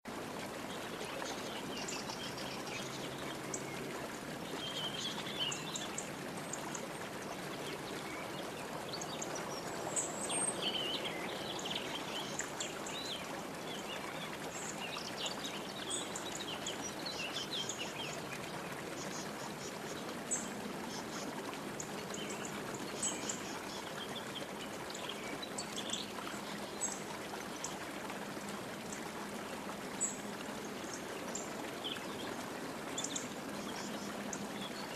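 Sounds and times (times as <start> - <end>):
stream water running: 0.0 - 34.9.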